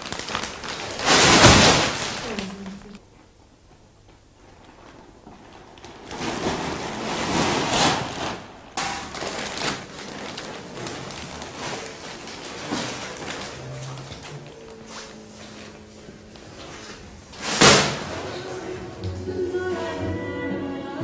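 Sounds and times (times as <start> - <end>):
plastic bag crinkling and rustling: 0.0 - 19.1.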